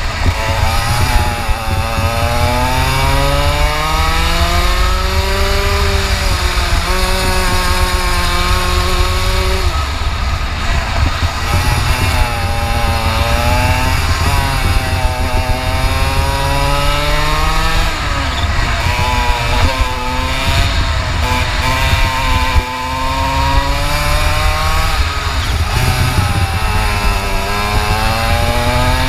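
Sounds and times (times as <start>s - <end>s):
kart engine revving: 0.0s - 29.0s.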